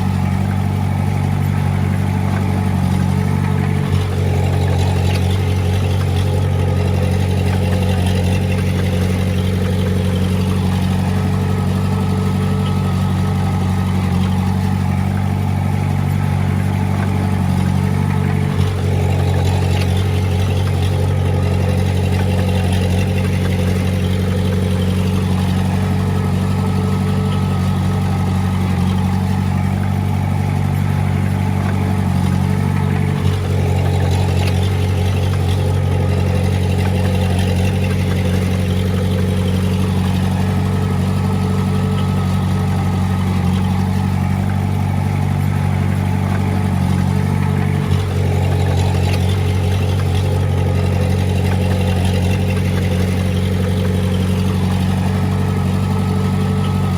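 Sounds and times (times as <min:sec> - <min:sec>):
bulldozer diesel engine running: 0:00.0 - 0:56.9
engine knock: 0:00.0 - 0:56.9.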